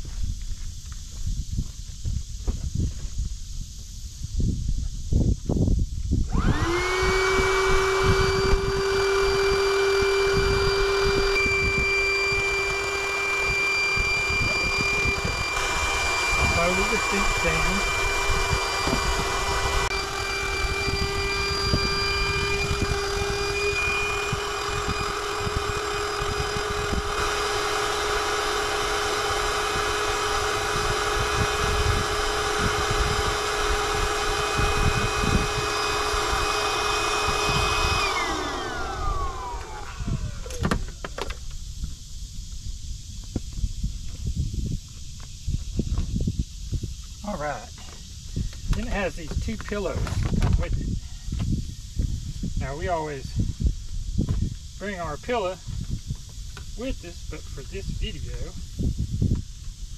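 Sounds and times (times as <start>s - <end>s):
electric air pump whining: 6.0s - 59.9s.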